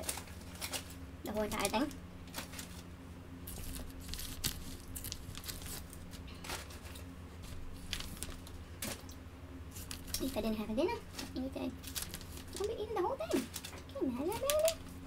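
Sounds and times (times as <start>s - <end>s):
plastic wrapping crinkling: 0.0s - 9.1s, 9.7s - 15.0s.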